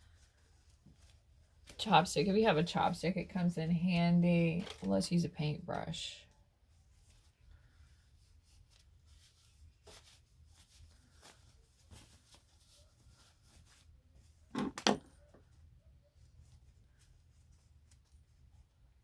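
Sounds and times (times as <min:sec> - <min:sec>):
cloth rustling: 0:00.0 - 0:05.5, 0:06.3 - 0:19.0.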